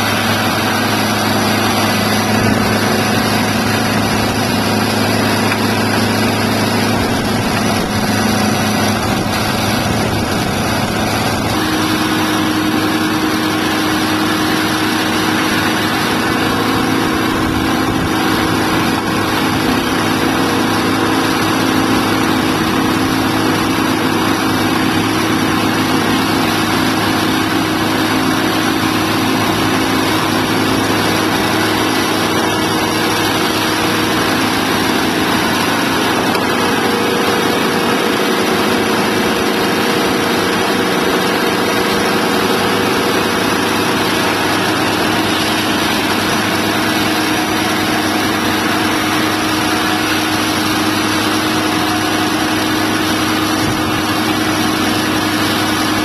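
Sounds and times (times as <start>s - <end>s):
saw cutting through log: 0.0s - 56.0s
sawmill engine running: 0.0s - 56.0s.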